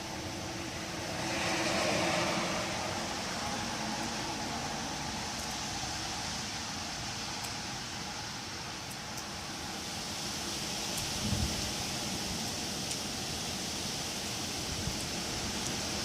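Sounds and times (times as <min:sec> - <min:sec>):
wind blowing through trees: 0:00.0 - 0:16.0.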